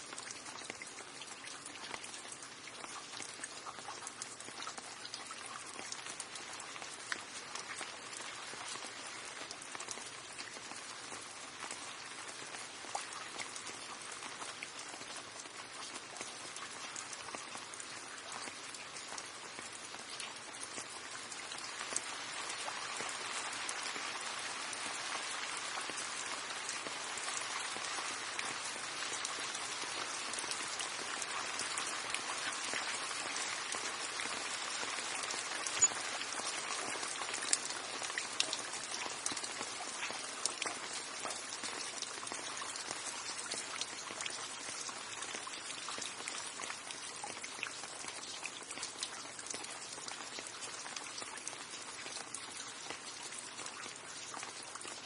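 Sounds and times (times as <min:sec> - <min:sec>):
rain drops ticking on surface: 0:00.0 - 0:55.0.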